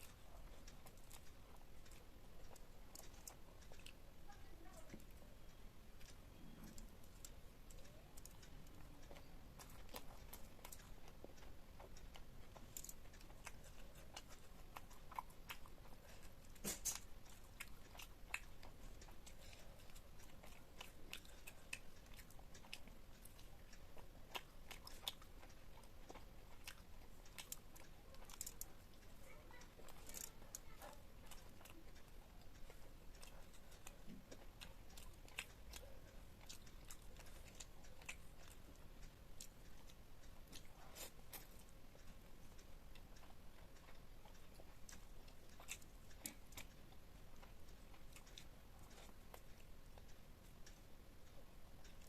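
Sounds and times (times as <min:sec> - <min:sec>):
chewing crunchy food: 0:00.0 - 0:52.0.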